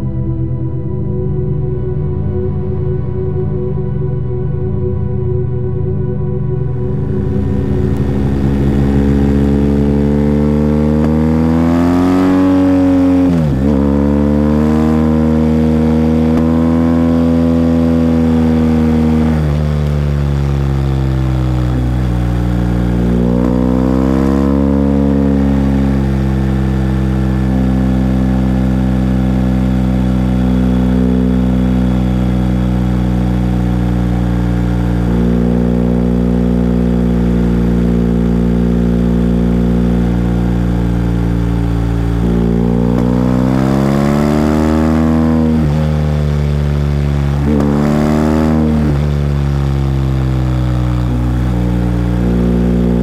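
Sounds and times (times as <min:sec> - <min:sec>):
motorcycle engine running: 0:06.0 - 0:53.0.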